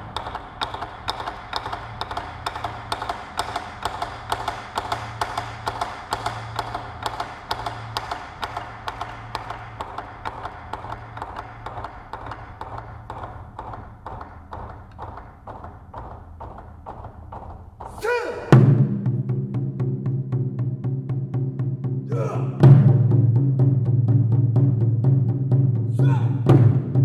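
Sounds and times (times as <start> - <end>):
taiko drums struck fast: 0.0 - 27.0.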